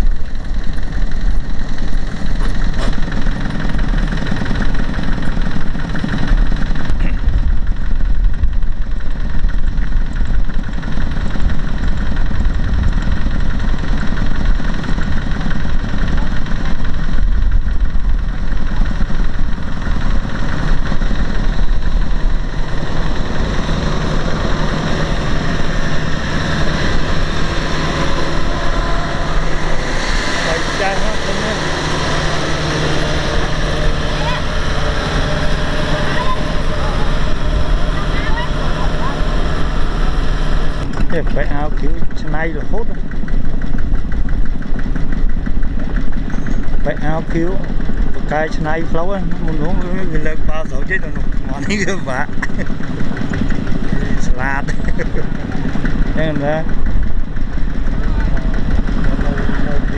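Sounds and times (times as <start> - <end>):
farm vehicle engine rumbling: 0.0 - 59.9.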